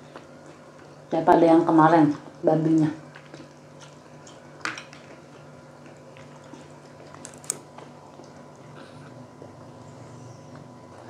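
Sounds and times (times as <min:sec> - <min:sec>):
soft chewing: 0:00.0 - 0:01.4, 0:02.0 - 0:11.0
faint steady hum: 0:00.0 - 0:11.0.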